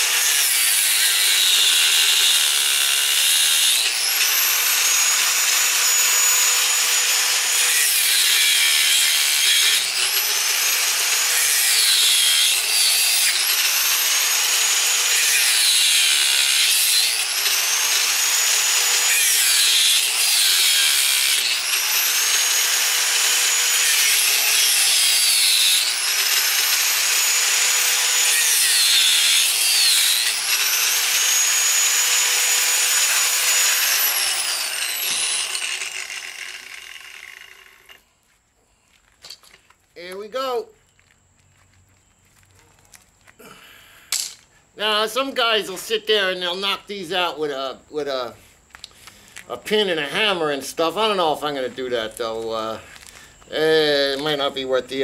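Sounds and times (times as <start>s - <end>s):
angle grinder cutting metal: 0.0s - 38.0s, 44.1s - 47.7s, 49.5s - 55.0s.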